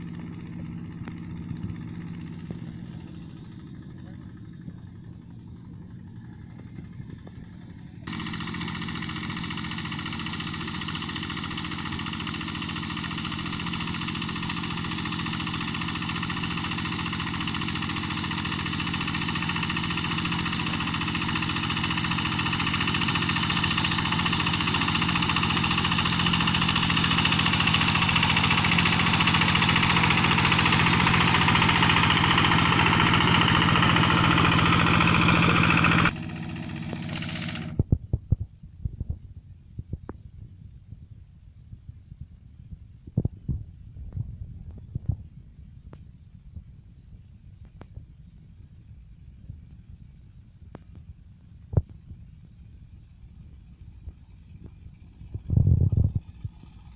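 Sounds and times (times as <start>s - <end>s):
hand tractor diesel engine running: 0.0s - 38.0s, 46.8s - 56.9s.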